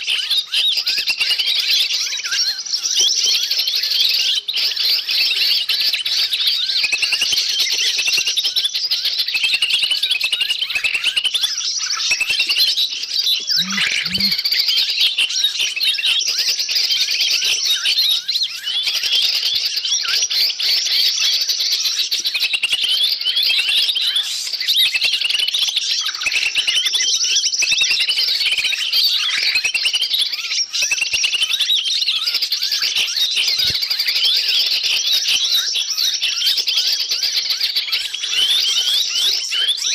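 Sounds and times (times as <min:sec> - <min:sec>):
small birds chirping in chorus: 0:00.0 - 0:39.9.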